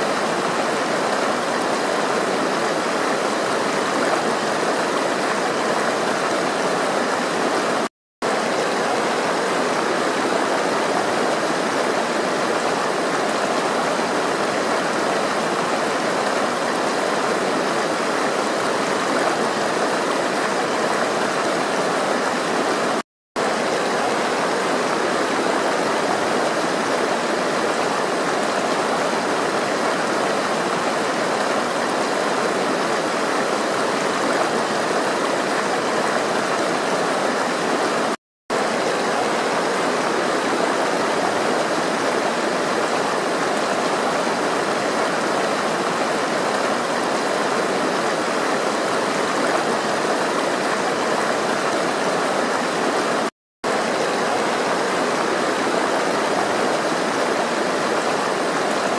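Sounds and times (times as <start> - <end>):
water rushing: 0.0 - 58.9.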